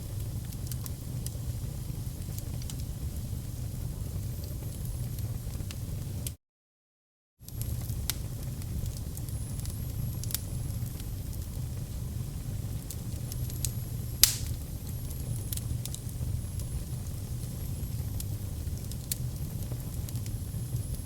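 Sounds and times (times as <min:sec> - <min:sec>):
fire popping: 0:00.0 - 0:06.1, 0:07.5 - 0:21.0
wood fire crackling: 0:00.0 - 0:06.4, 0:07.5 - 0:21.0.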